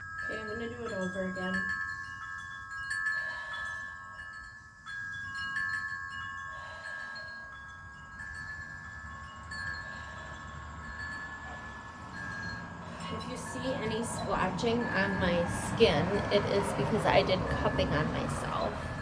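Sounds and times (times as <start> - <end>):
wind chimes ringing: 0.0 - 19.0.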